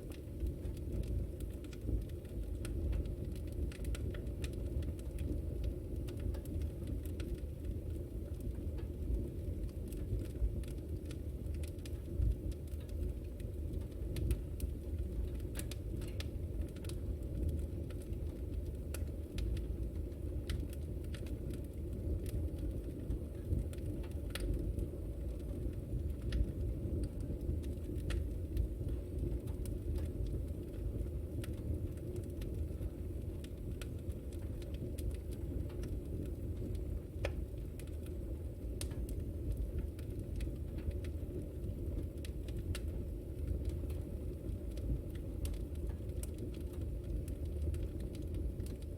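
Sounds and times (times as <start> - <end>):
fire crackling and popping: 0.0 - 48.9
fire flame rumble: 0.0 - 48.9.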